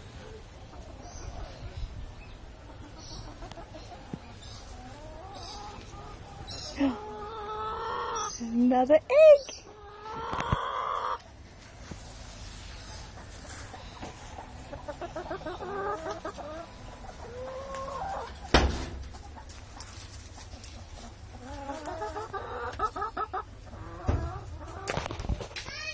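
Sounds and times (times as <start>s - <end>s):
hens clucking: 0.0s - 8.8s, 9.5s - 25.6s.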